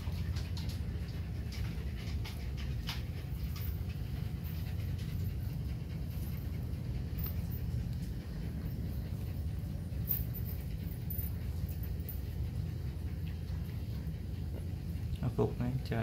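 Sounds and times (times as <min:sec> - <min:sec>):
paws clicking on tiled floor: 0:00.0 - 0:16.0
puppies panting: 0:00.0 - 0:16.0
steady low hum: 0:00.0 - 0:16.0.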